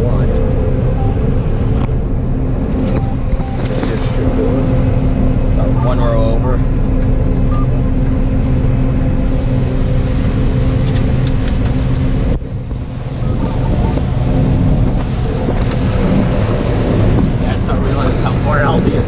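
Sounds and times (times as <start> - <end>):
combine engine and threshing drone: 0.0 - 19.0.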